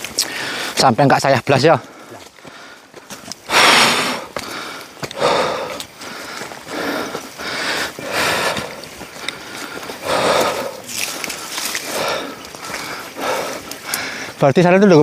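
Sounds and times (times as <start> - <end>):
person breathing hard: 0.2 - 0.8, 1.8 - 14.4.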